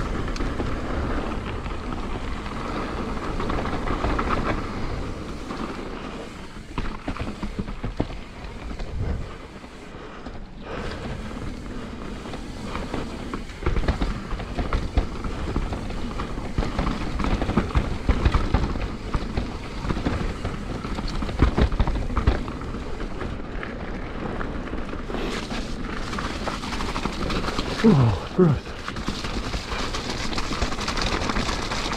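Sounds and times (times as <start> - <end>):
bike clattering over bumps: 0.0 - 27.8, 28.7 - 31.9.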